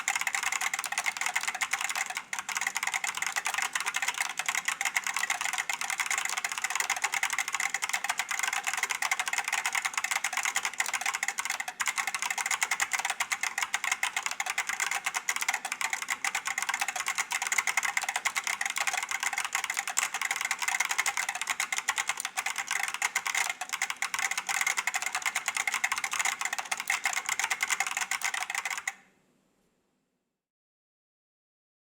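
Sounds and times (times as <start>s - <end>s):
fast keyboard typing: 0.0s - 29.0s.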